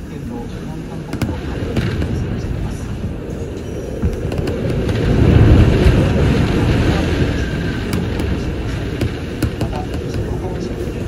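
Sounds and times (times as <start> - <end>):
strong wind gusting through trees: 0.0 - 11.0.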